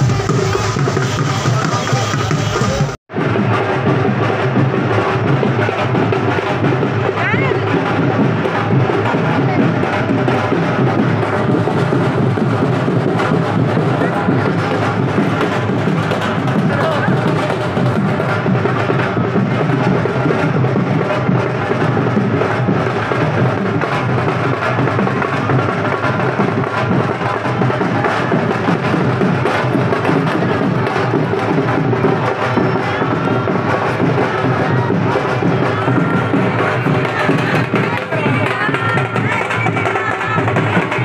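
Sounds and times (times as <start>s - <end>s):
loud music with heavy percussion: 0.0s - 41.0s.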